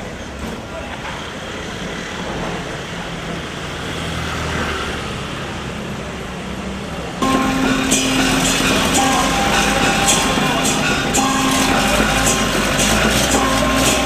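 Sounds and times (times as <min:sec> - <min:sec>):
road noise: 0:00.0 - 0:14.0
traffic engines rumbling: 0:00.0 - 0:14.0.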